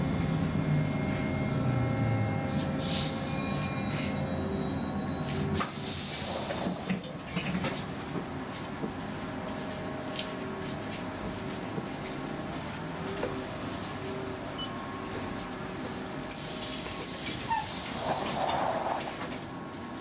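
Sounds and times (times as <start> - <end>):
tram humming: 0.0 - 20.0.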